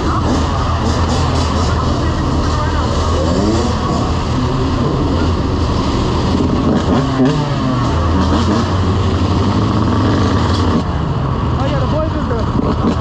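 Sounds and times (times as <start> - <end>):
steady low drone: 0.0 - 12.6
motorcycle engines revving: 0.0 - 13.0.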